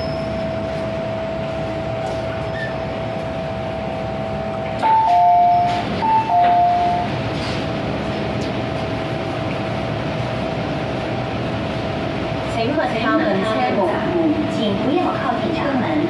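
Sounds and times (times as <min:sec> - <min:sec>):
train running with tonal whine: 0:00.0 - 0:16.0.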